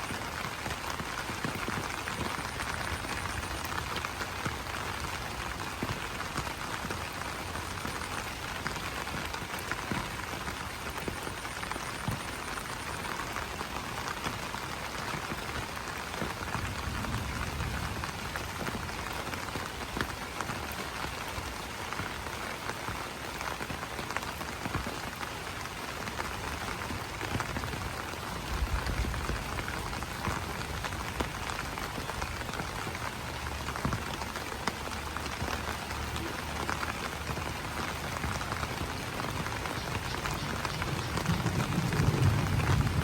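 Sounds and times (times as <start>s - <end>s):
rain on leaves: 0.0s - 43.0s.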